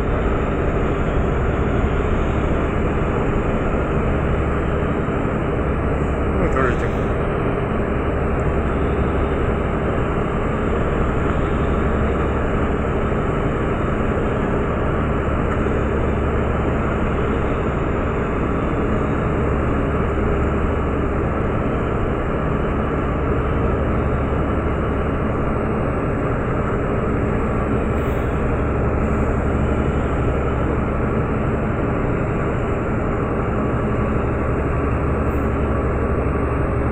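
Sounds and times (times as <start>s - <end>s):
boat diesel engines running: 0.0s - 36.9s.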